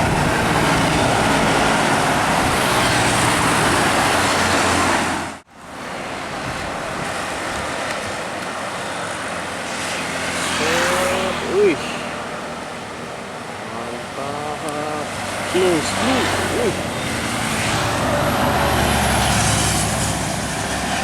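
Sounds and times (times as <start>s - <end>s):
bus engine running: 0.0s - 5.5s, 6.4s - 21.0s
traffic noise: 0.0s - 21.0s
tyre and road noise: 0.0s - 21.0s.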